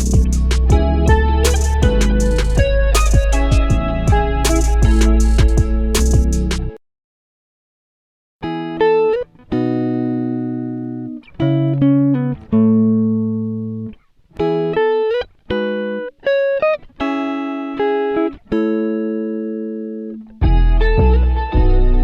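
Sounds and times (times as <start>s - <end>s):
plucked string music: 0.0s - 6.8s, 8.4s - 22.0s.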